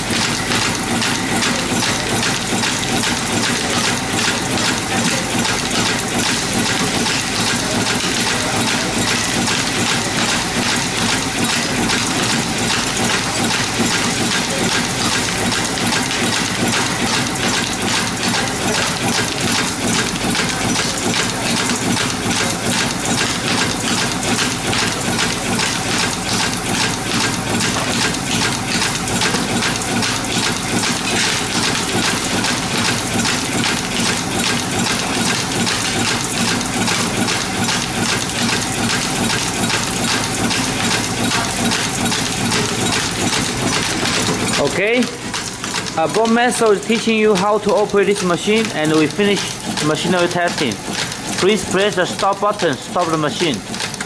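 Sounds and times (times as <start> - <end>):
machine heads clicking rapidly: 0.0 - 54.0
vibratory feeder buzzing and rattling: 0.0 - 54.0.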